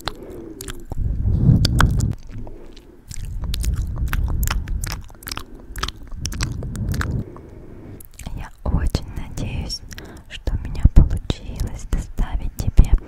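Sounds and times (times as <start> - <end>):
low rumble: 0.0 - 12.9
wet mouth clicks and smacks: 0.0 - 13.0.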